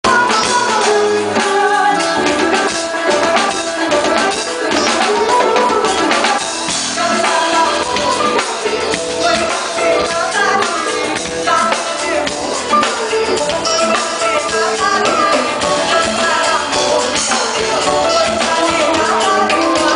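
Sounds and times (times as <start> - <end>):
drum kit with cymbals: 0.0 - 19.9
live band playing: 0.0 - 19.9.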